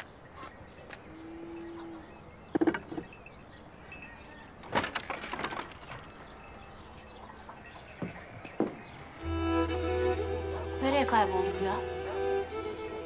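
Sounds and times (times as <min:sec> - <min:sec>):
metallic jingling: 0:00.0 - 0:13.0.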